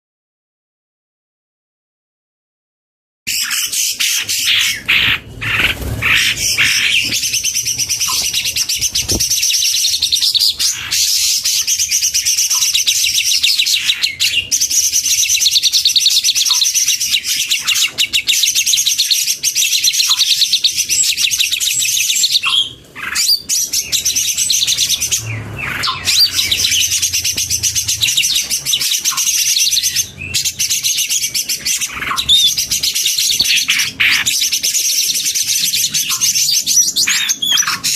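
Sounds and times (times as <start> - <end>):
birds chirping and trilling: 3.3 - 37.9.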